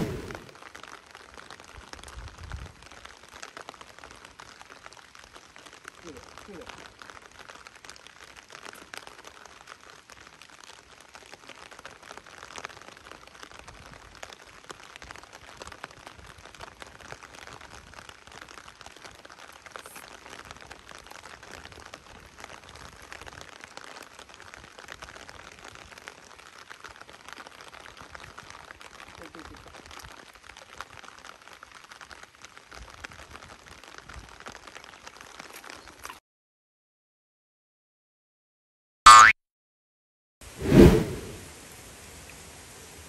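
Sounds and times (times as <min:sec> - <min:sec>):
heavy rain falling: 0:00.0 - 0:36.1, 0:41.3 - 0:43.0.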